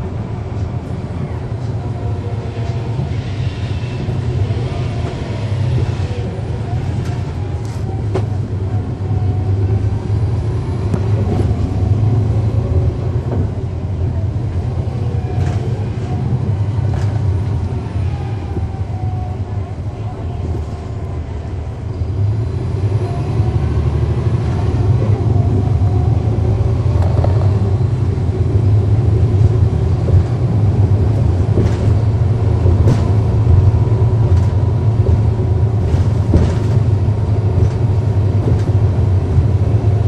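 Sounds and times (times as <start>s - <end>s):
bus diesel engine rumble: 0.0s - 40.0s.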